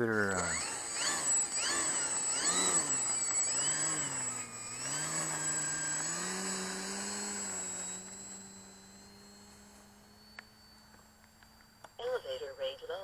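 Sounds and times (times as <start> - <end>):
model plane motor and propeller: 0.0 - 13.0.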